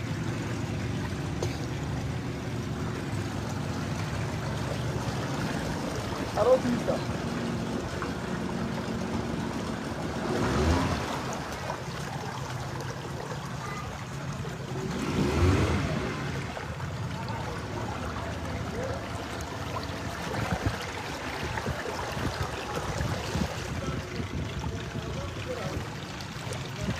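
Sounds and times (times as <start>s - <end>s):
boat motor running: 0.0s - 26.9s
water rushing along hull: 0.0s - 26.9s.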